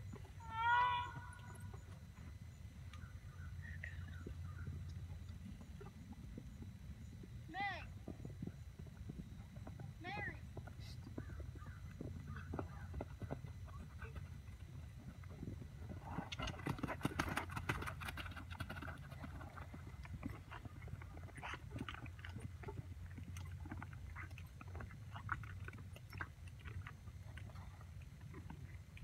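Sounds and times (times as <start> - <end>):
horse hoofbeats on dirt: 0.0 - 2.6, 4.0 - 29.0.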